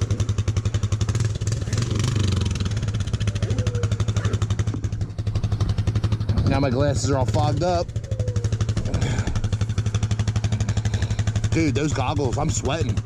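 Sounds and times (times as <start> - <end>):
atv engine idling: 0.0 - 13.0.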